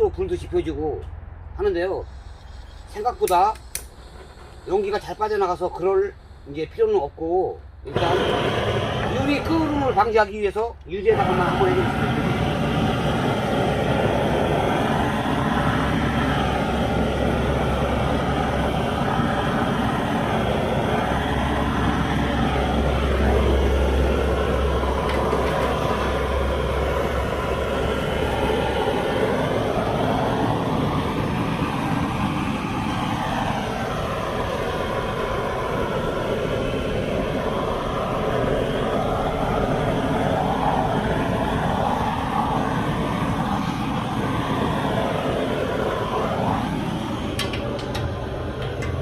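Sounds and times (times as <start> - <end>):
gas blowtorch running: 3.0 - 6.8, 7.8 - 49.0.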